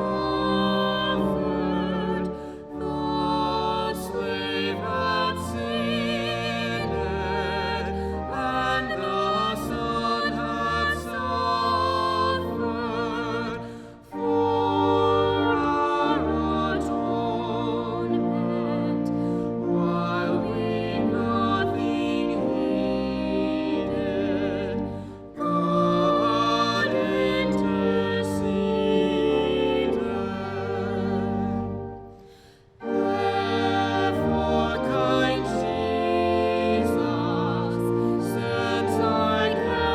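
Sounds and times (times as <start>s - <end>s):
sustained accompaniment: 0.0s - 39.9s.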